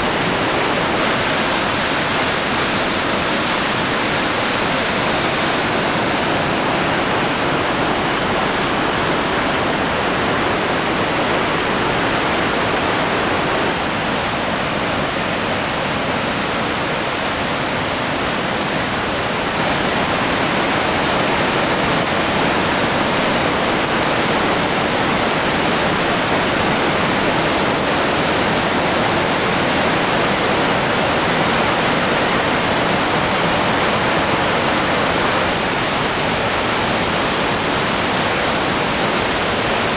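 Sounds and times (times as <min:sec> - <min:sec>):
river whitewater rushing: 0:00.0 - 0:39.9.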